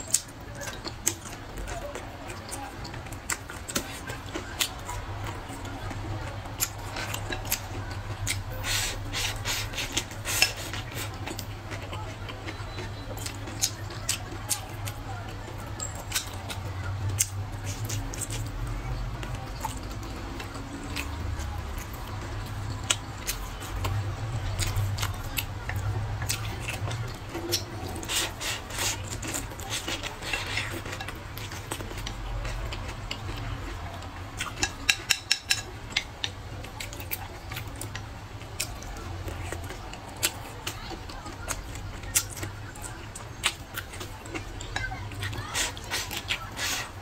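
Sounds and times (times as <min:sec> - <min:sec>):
chopsticks clicking against bowl: 0:00.0 - 0:18.6, 0:19.2 - 0:46.8
chewing food: 0:00.0 - 0:47.0.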